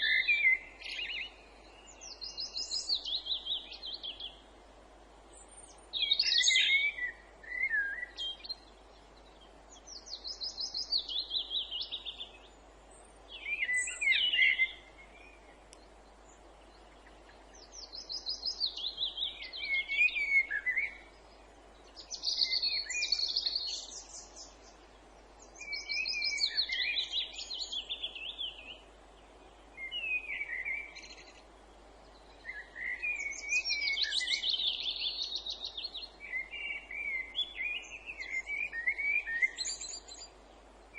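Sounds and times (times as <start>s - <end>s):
faint background hiss: 0.0s - 40.9s
songbirds singing trills: 0.0s - 40.9s.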